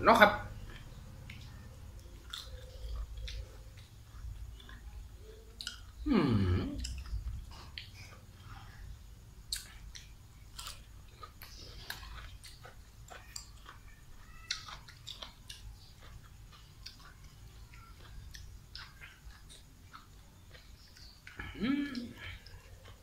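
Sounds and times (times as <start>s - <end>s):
person chewing and smacking: 0.5s - 23.0s.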